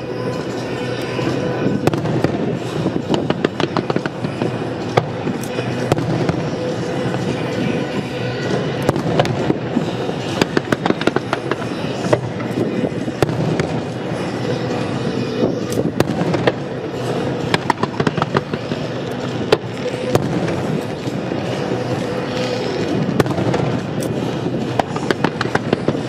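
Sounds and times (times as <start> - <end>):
continuous rumble: 0.0 - 26.0
firework bangs and crackles: 0.0 - 26.0.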